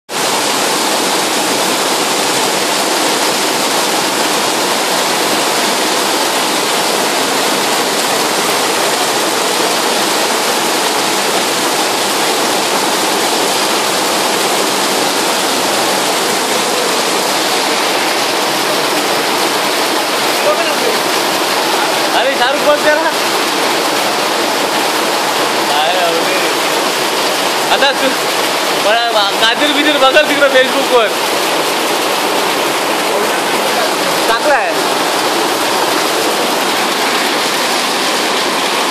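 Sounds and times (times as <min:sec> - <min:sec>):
heavy rain pouring: 0:00.1 - 0:38.9
runoff streaming off awning: 0:00.1 - 0:38.9.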